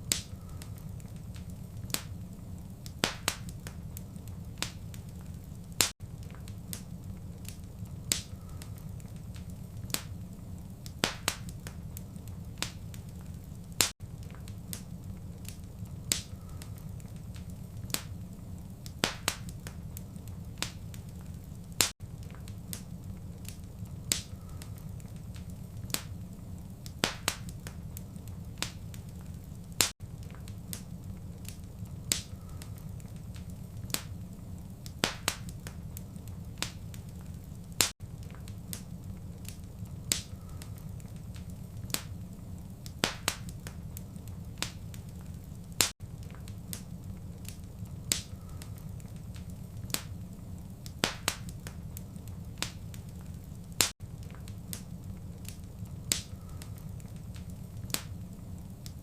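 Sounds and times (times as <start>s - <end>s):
fire crackling and popping: 0.0s - 59.0s
low rumble of burning: 0.0s - 59.0s.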